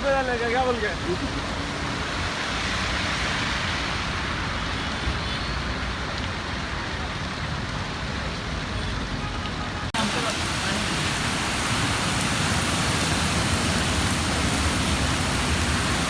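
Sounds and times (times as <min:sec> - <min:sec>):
water rushing on road: 0:00.0 - 0:08.4, 0:09.9 - 0:16.0
road traffic: 0:00.0 - 0:16.0.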